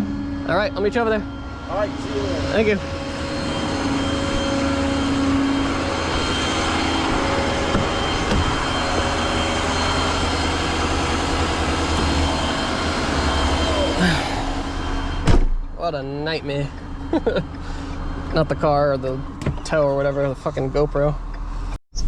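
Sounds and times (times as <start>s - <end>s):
vehicle engine and road noise: 0.0s - 21.8s
low hum: 0.0s - 22.0s.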